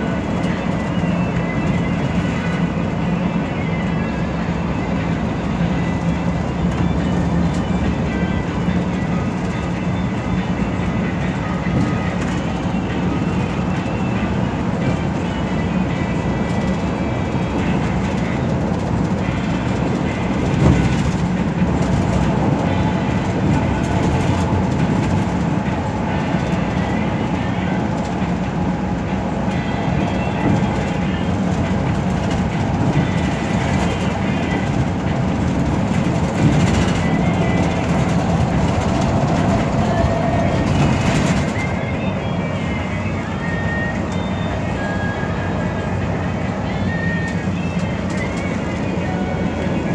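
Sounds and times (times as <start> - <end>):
bus engine and road drone: 0.0 - 49.9.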